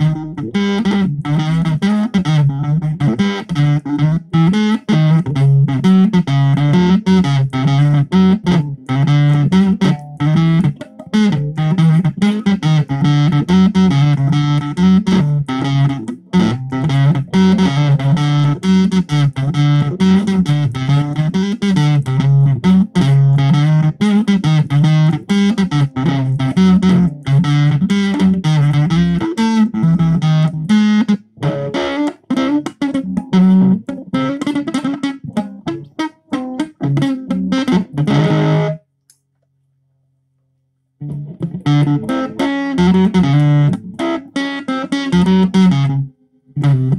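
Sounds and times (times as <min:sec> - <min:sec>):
distorted electric guitar riff: 0:00.0 - 0:38.8, 0:41.0 - 0:46.9.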